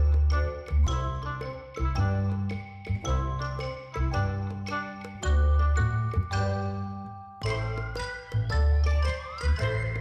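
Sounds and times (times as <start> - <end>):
steady bass: 0.0 - 10.0
tinkly children's tune: 0.0 - 10.0.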